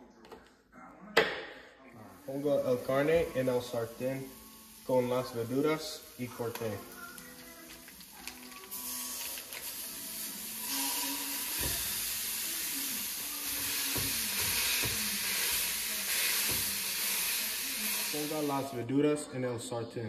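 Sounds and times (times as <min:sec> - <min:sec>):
meat sizzling in a skillet: 0:02.1 - 0:18.7.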